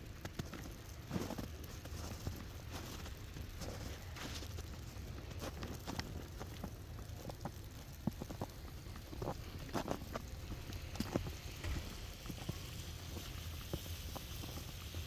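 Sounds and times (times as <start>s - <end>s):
footsteps crunching in snow: 0.2s - 14.7s.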